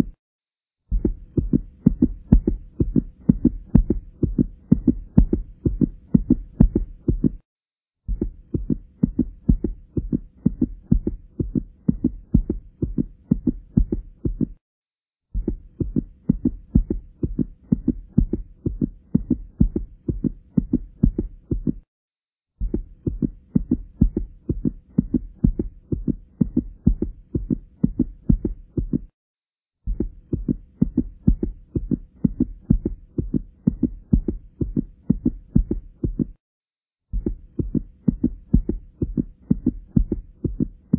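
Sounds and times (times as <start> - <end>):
heartbeat-like thumping pulses: 0.9 - 14.6, 15.3 - 21.9, 22.6 - 29.2, 29.8 - 36.4, 37.1 - 40.9.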